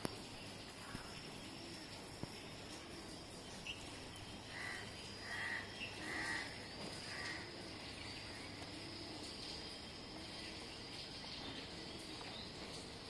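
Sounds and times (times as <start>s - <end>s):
high insect-like whine: 0.0s - 13.0s
outdoor background noise: 0.0s - 13.0s.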